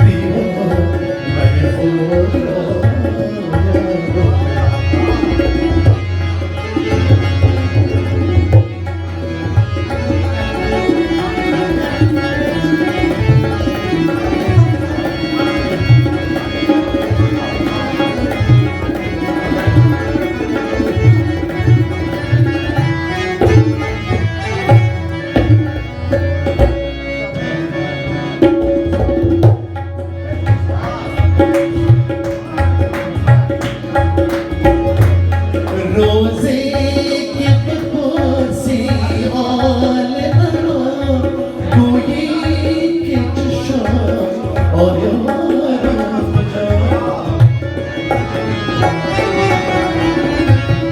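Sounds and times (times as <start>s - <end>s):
hand drumming: 0.0s - 27.0s, 28.4s - 50.9s
held melodic line: 0.0s - 50.9s.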